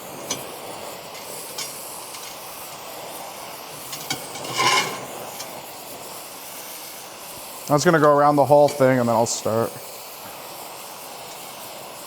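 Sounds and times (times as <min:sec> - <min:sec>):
welding torch flame hissing: 0:00.0 - 0:12.0.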